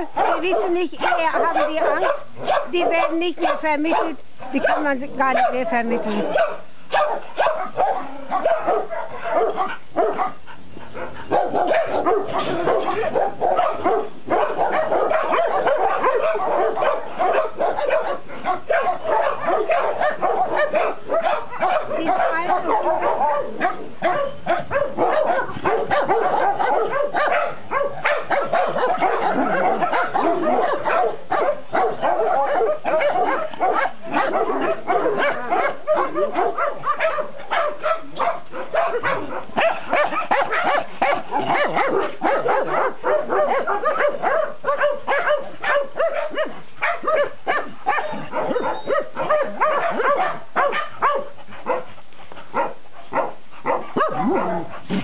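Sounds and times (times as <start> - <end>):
many dogs barking: 0.0 - 55.0.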